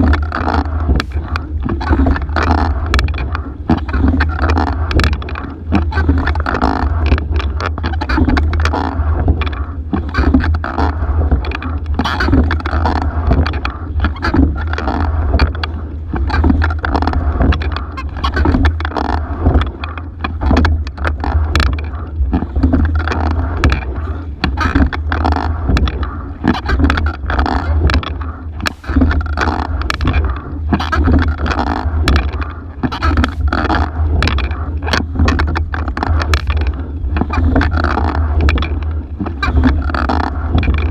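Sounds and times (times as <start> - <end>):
low rumble: 0.0 - 40.9
oars knocking in oarlocks: 0.0 - 40.9
water rushing along boat hull: 0.0 - 40.9.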